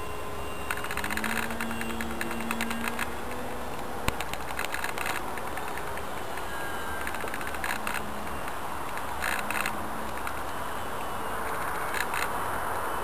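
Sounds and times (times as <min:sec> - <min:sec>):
model aircraft engine drone: 0:00.0 - 0:13.0
steady rushing noise: 0:00.0 - 0:13.0
short crackles: 0:00.4 - 0:12.4.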